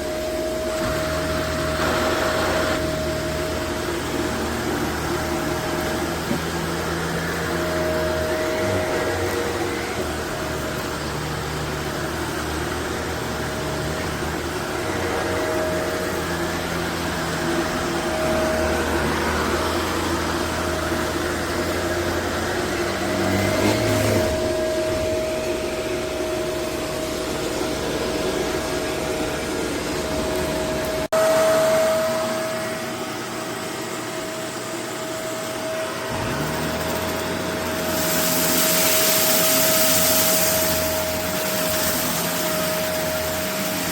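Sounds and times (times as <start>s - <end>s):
vacuum cleaner running on carpet: 0.0s - 43.9s.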